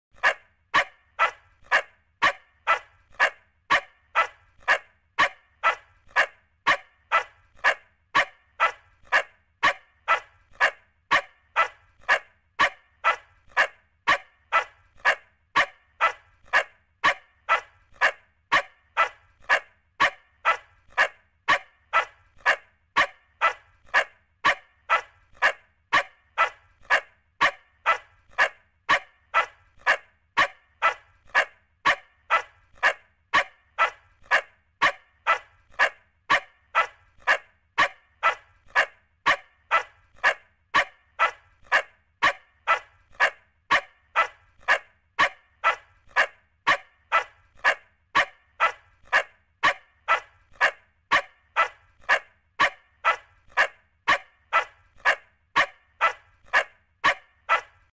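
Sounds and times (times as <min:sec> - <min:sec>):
puppy yapping: 0:00.2 - 0:57.9.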